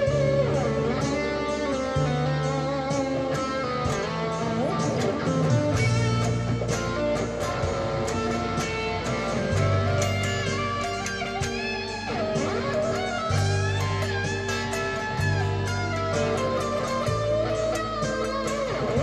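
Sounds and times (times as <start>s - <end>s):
electric guitar lead line: 0.0s - 19.0s.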